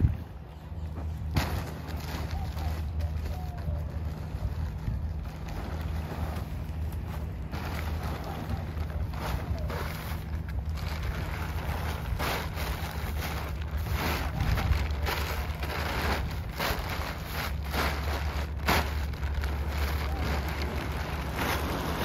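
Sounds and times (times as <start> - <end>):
wind rumble on microphone: 0.0 - 22.0
tent fabric rustling: 4.1 - 22.0.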